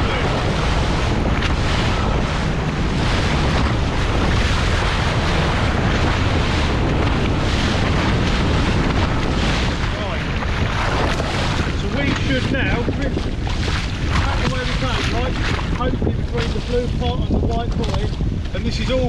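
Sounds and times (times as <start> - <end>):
waves and water: 0.0 - 19.0
wind buffeting microphone: 0.0 - 19.0.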